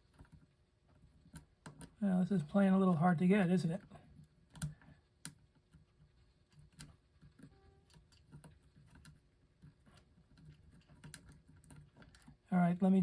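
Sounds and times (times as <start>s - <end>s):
hands clicking and tapping mechanism: 0.0s - 2.0s, 4.0s - 12.5s.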